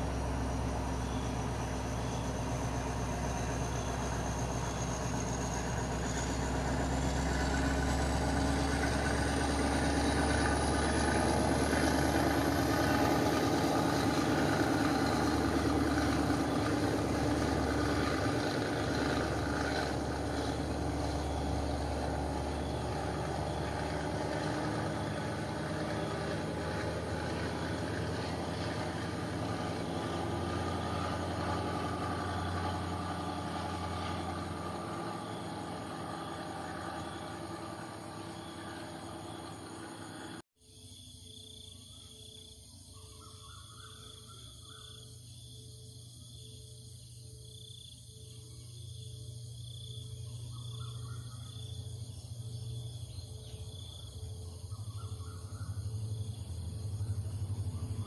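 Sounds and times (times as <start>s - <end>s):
diesel locomotive engine: 0.0s - 40.5s, 44.1s - 58.0s.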